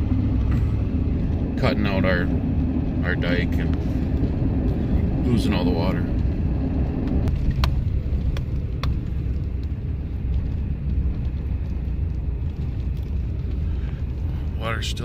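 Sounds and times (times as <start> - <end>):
low rumble of engine and tyres: 0.0 - 15.0.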